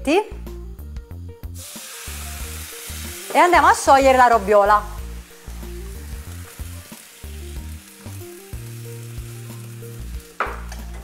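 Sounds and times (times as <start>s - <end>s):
water sizzling in a wok: 1.4s - 11.0s.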